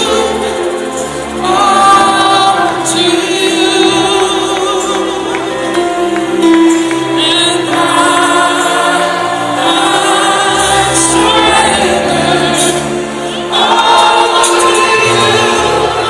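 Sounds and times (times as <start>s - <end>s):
group singing gospel music: 0.0s - 16.0s.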